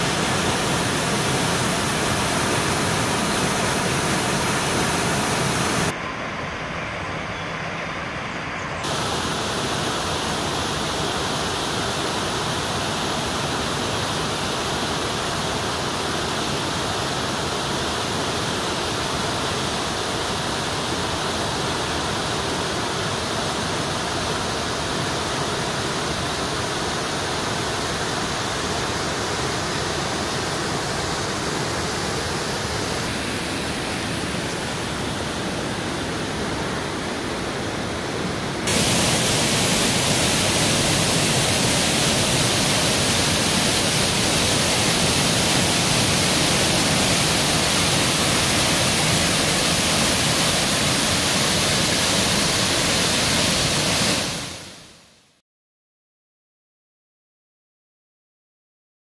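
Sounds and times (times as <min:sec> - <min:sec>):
waterfall and river rushing: 0:00.0 - 0:55.3.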